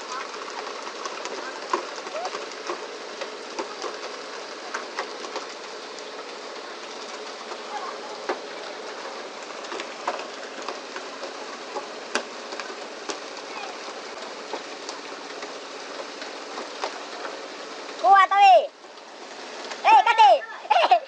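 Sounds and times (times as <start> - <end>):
sea water rushing along hull: 0.0 - 21.0.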